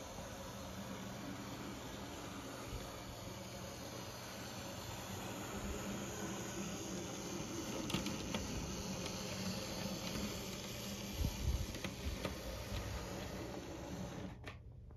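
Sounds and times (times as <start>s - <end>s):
model tram electric hum: 0.0s - 14.9s.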